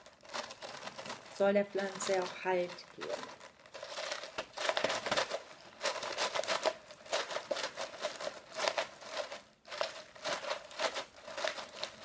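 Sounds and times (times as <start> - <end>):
clay pebbles rattling in plastic cup: 0.0 - 12.0.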